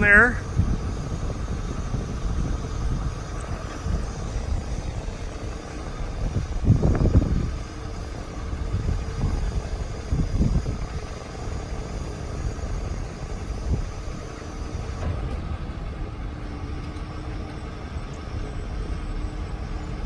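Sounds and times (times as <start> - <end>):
diesel truck engine running: 0.0 - 20.0
low rumbles: 0.0 - 20.0.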